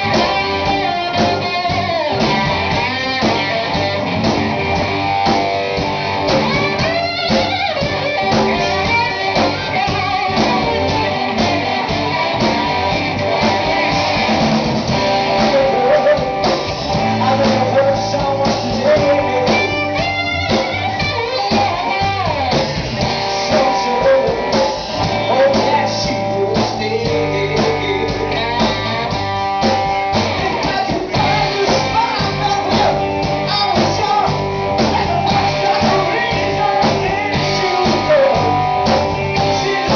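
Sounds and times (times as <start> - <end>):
drum kit: 0.0 - 39.9
electric guitars: 0.0 - 39.9
pitch-bending lead guitar melody: 0.0 - 39.9.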